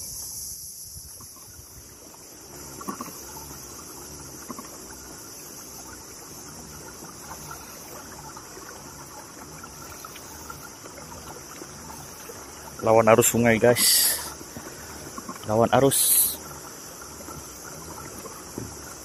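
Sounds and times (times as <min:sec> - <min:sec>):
high insect buzz: 0:00.0 - 0:19.0
water lapping against kayak hull: 0:00.0 - 0:19.0.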